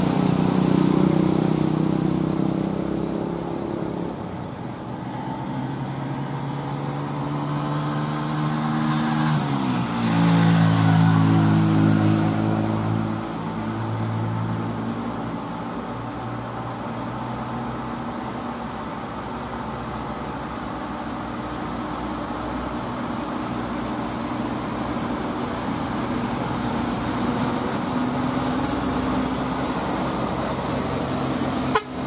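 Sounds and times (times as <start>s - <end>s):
diesel truck engine labouring: 0.0s - 32.0s.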